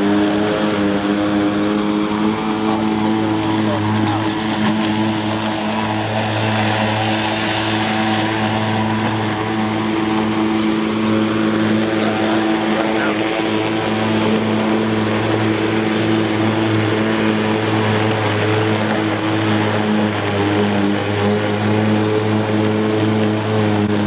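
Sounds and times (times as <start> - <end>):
electric lawn mower cutting grass: 0.0 - 24.0.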